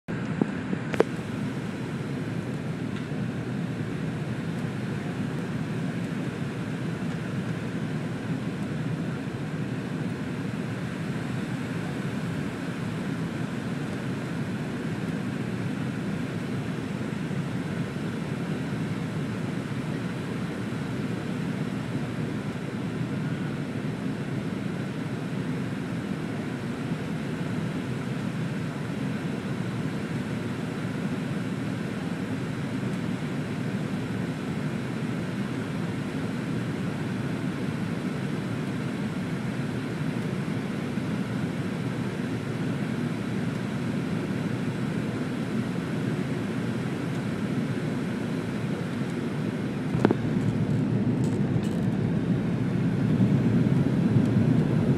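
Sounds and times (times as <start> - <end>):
airliner cabin engine drone: 0.1 - 54.9.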